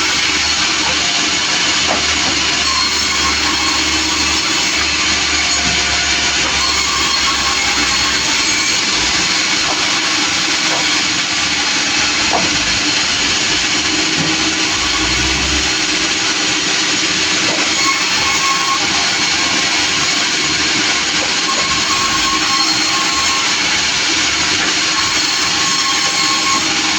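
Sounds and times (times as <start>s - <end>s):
sawmill running: 0.0s - 26.9s.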